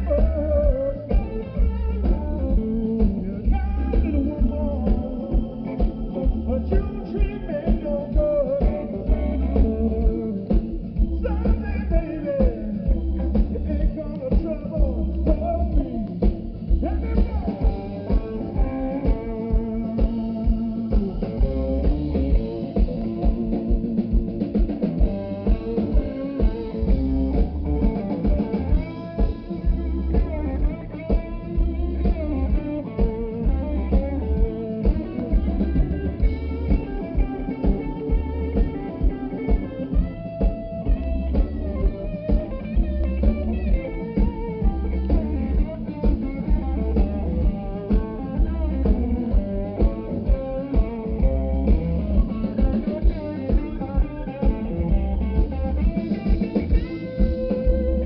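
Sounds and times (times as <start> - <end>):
bass: 0.0 - 58.0
drum kit: 0.0 - 58.0
lead guitar bending notes: 0.0 - 58.0.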